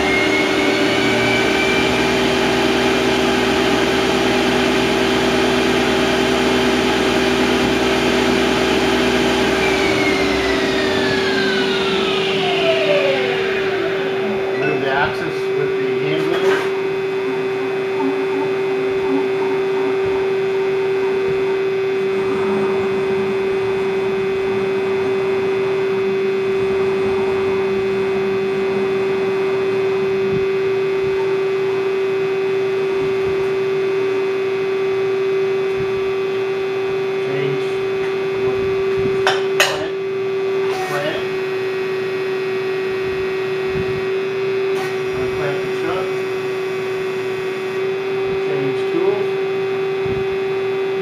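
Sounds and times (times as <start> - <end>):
lathe running with steady hum: 0.0 - 51.0.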